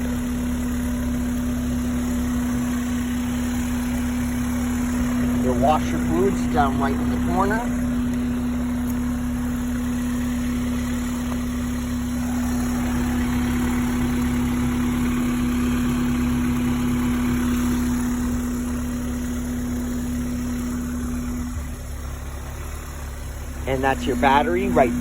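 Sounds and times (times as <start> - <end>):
car engine idling: 0.0 - 25.0
steady hum: 0.0 - 25.0.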